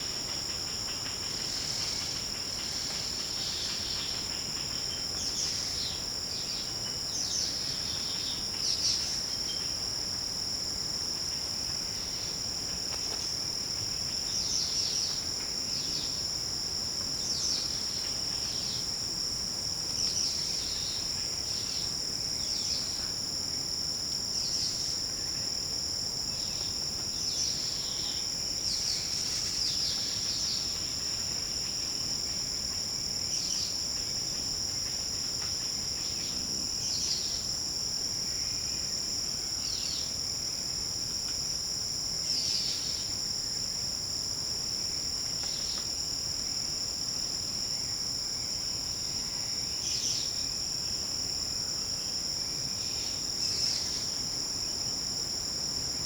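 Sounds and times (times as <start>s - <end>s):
high insect chirps: 0.0s - 56.0s
insects trilling: 0.0s - 56.0s.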